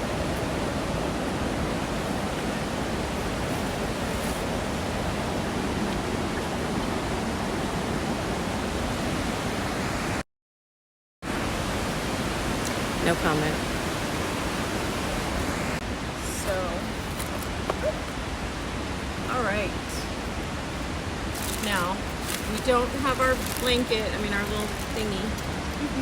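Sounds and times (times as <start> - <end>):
waterfall rushing: 0.0 - 10.2, 11.3 - 26.0.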